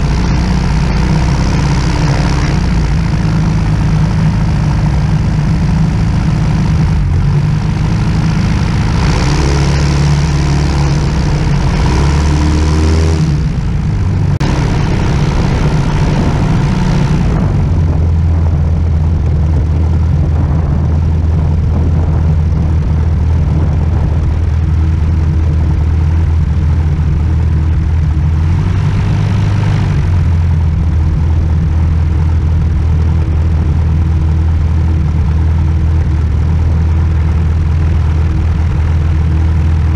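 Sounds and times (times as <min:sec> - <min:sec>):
light aircraft engine idling: 0:00.0 - 0:39.9
rushing noise: 0:00.0 - 0:39.9.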